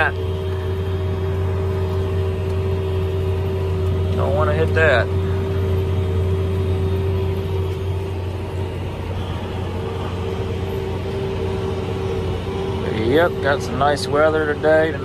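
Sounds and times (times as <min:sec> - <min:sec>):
steady whine: 0:00.0 - 0:15.0
tractor engine droning: 0:00.0 - 0:15.0.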